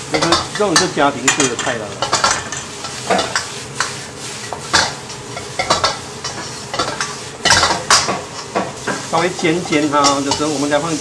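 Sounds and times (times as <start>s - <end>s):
frying sizzle: 0.0s - 11.0s
metal spatula scraping wok: 0.1s - 11.0s.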